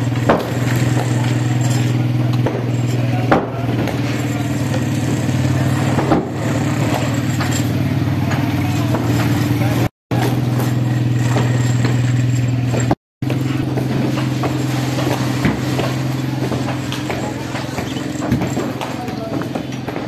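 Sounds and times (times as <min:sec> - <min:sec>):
rickshaw engine idling: 0:00.0 - 0:20.0.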